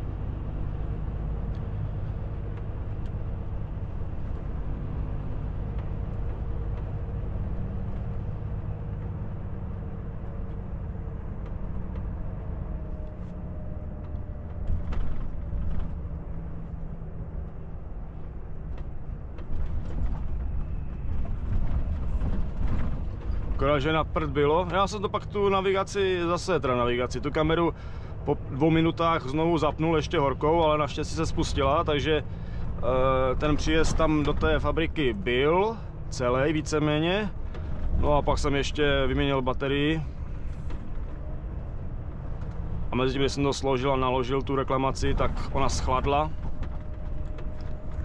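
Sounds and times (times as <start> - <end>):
diesel engine and road rumble: 0.0 - 48.0.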